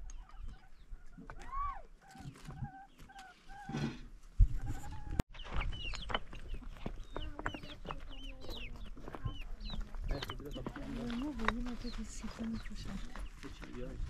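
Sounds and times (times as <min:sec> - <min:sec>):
chickens clucking and chirping: 0:00.0 - 0:01.4, 0:02.0 - 0:03.8, 0:04.4 - 0:14.0.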